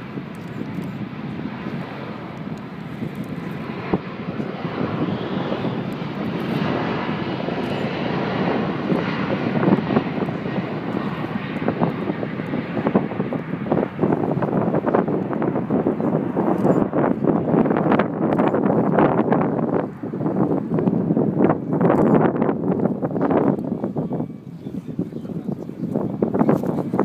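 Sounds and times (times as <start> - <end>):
jet engines at takeoff thrust: 0.0 - 27.0.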